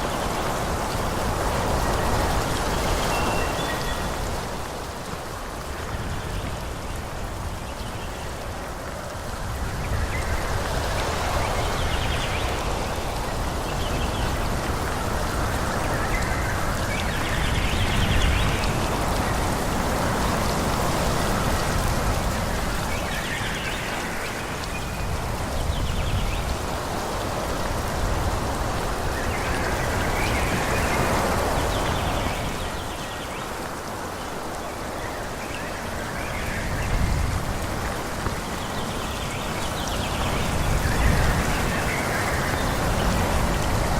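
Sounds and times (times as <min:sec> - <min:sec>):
wind rustling tree leaves: 0:00.0 - 0:43.9.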